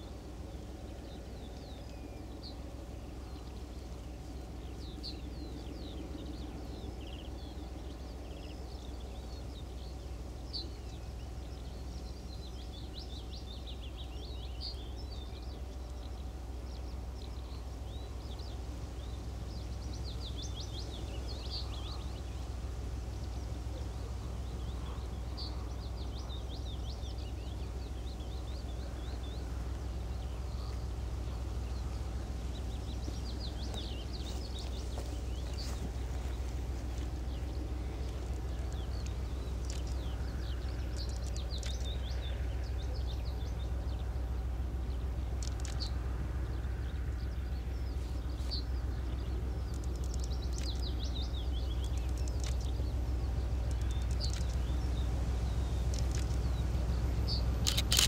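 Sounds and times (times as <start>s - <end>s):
low rumble: 0.0s - 58.0s
songbirds chirping and trilling: 0.0s - 58.0s.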